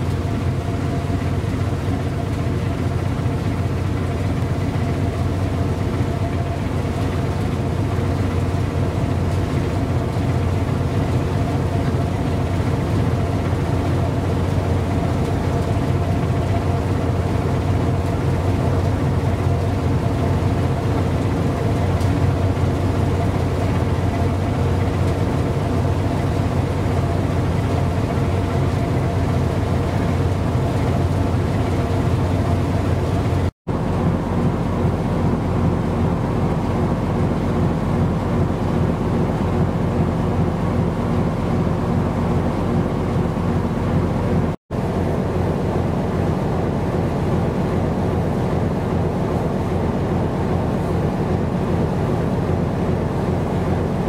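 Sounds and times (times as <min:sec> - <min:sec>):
boat engine drone: 0:00.0 - 0:54.0.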